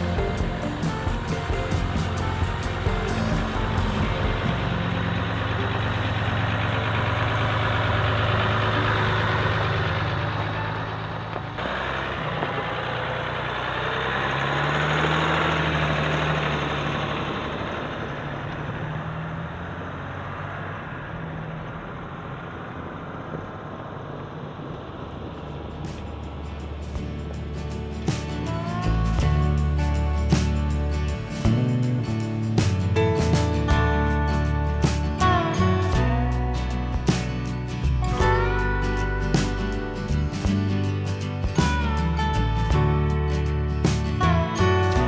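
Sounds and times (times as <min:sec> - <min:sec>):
pickup truck engine running: 0:00.0 - 0:45.0.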